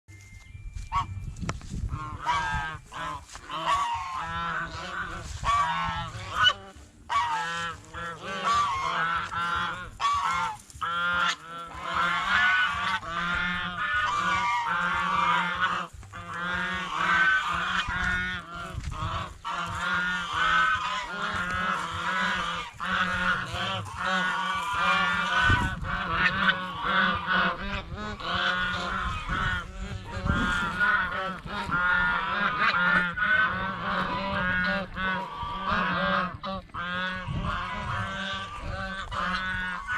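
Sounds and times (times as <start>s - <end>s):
steady low hum: 0.1s - 39.9s
geese honking: 0.8s - 39.9s.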